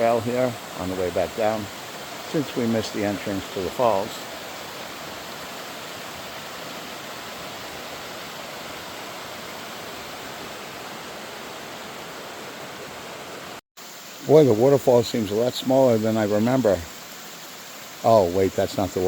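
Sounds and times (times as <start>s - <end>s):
water rushing down small cascade: 0.0s - 19.0s.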